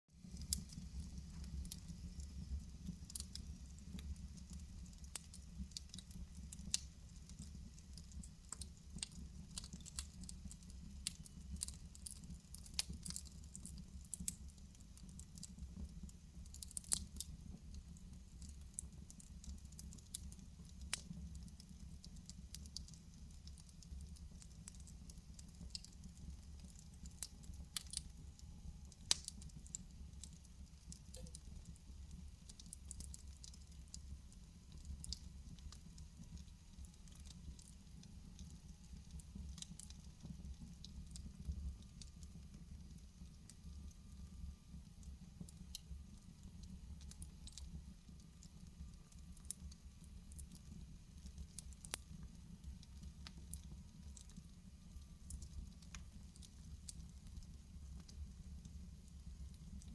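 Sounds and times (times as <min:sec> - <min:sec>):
fire crackling and popping: 0:00.1 - 0:59.9
fire rumbling: 0:00.2 - 0:48.8.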